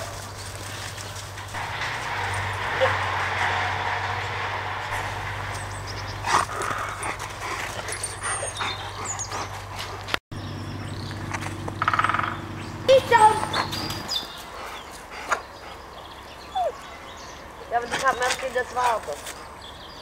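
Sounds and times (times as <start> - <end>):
dogs barking and yipping: 0.0 - 11.4, 12.1 - 17.6.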